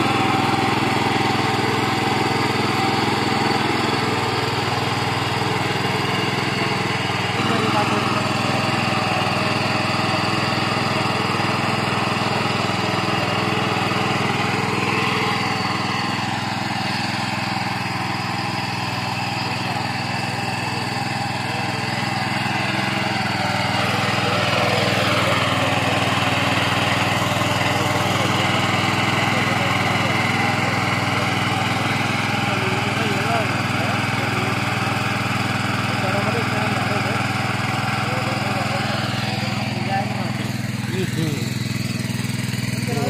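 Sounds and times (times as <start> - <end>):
power weeder engine running: 0.0 - 43.0.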